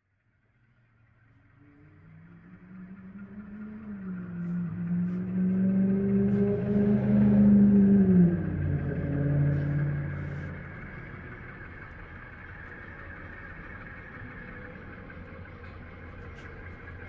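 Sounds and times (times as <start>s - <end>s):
model locomotive diesel engine hum: 0.0s - 17.0s.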